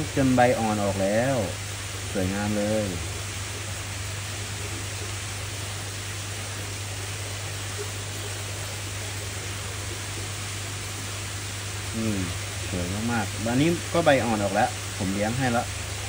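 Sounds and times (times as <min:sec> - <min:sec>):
constant low hum: 0:00.0 - 0:16.0
steady hiss: 0:00.0 - 0:16.0.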